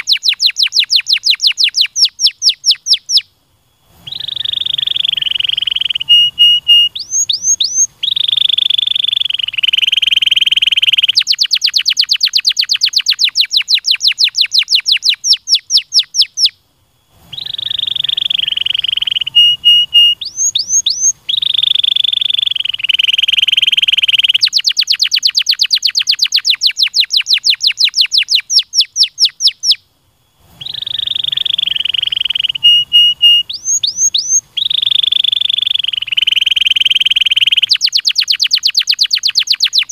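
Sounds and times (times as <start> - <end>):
canary singing: 0.0 - 3.3, 4.0 - 16.6, 17.2 - 29.8, 30.4 - 39.9.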